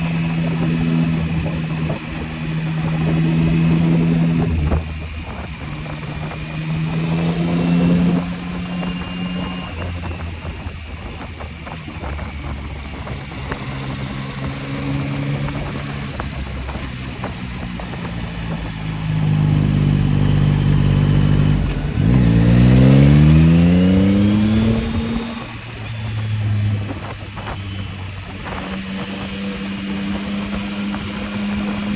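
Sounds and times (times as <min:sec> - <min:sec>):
motorcycle engine accelerating: 0:00.0 - 0:31.9
wind over microphone: 0:00.0 - 0:31.9.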